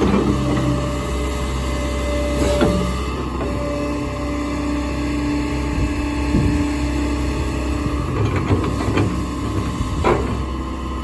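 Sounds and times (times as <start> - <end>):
excavator engine humming: 0.0 - 11.0.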